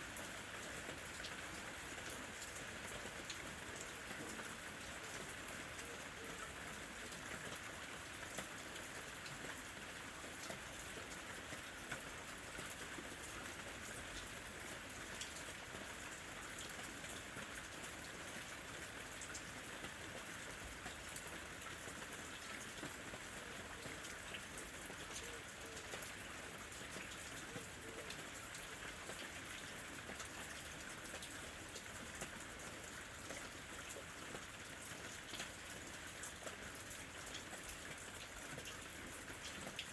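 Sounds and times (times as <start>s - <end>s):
light rain pattering: 0.0s - 39.9s.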